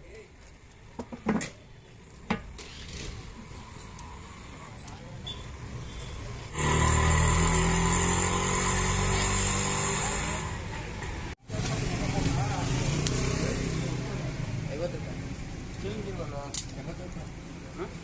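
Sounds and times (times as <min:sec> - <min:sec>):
street noise: 0:00.0 - 0:18.0.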